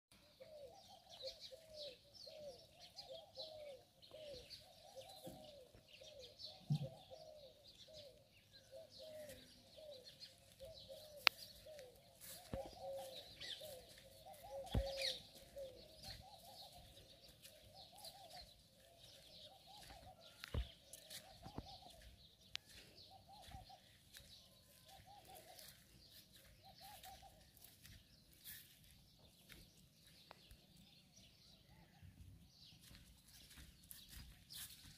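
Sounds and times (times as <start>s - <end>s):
low repeated bird hooting: 0.1s - 28.4s
high bird chirping: 0.4s - 28.8s.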